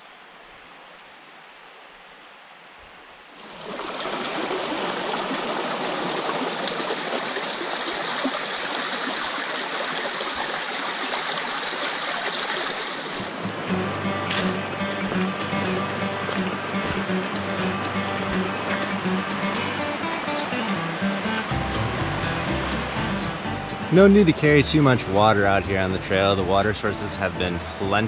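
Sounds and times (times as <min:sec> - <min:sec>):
stream splashing over rocks: 0:03.3 - 0:28.0.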